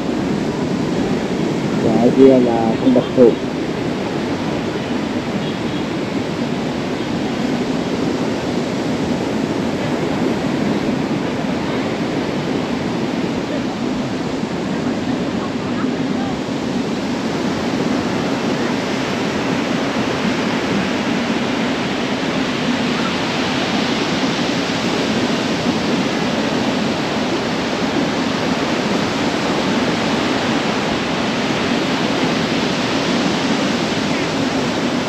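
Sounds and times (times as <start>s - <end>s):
sea wind: 0.0s - 35.0s
surf on a beach: 0.0s - 35.0s.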